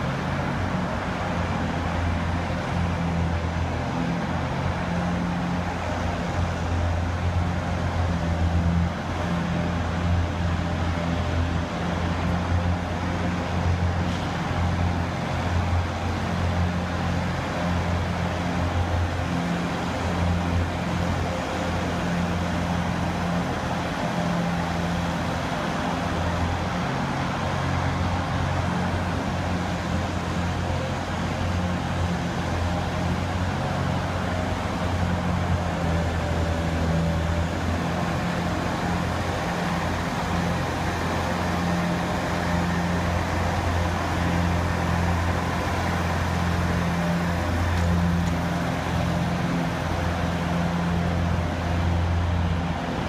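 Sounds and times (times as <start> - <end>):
ice resurfacing machine running: 0.0 - 53.0.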